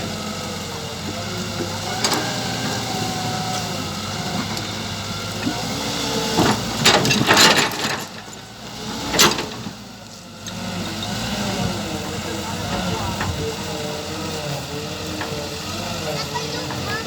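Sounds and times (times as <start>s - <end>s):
excavator mechanical hum: 0.0s - 17.0s.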